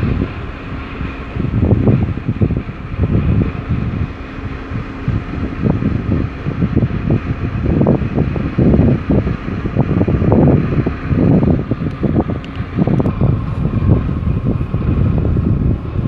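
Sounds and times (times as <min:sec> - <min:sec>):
faint mechanical hum: 0:00.0 - 0:16.0
wind buffeting microphone: 0:00.0 - 0:16.0.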